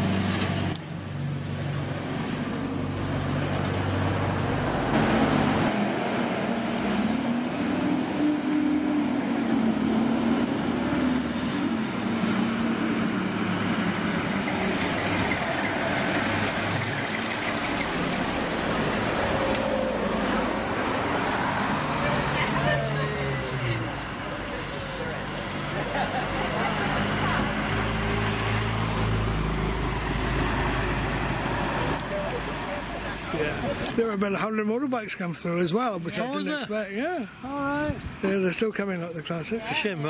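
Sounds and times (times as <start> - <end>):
wavering vehicle engine hum: 0.0 - 34.0
road and tyre noise: 0.0 - 40.0.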